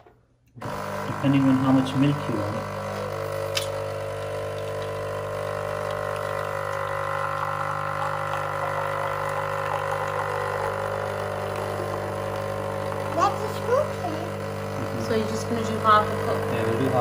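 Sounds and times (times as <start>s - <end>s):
coffee machine pump buzzing: 0.5s - 17.0s
liquid pouring into a mug: 0.6s - 15.1s.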